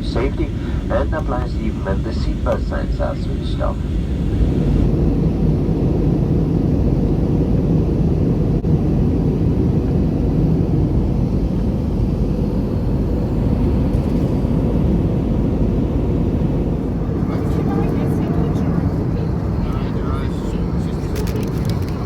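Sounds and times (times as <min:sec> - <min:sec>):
aircraft cabin airflow rushing: 0:00.0 - 0:22.0.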